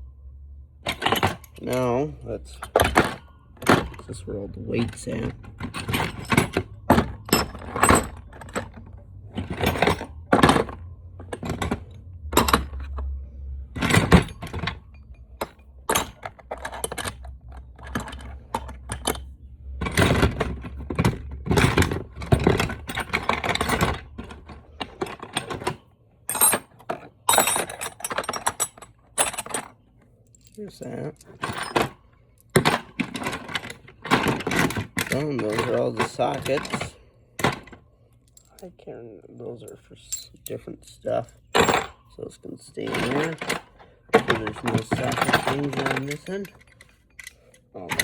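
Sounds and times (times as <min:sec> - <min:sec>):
metal tools clinking and rattling: 0:00.9 - 0:48.0.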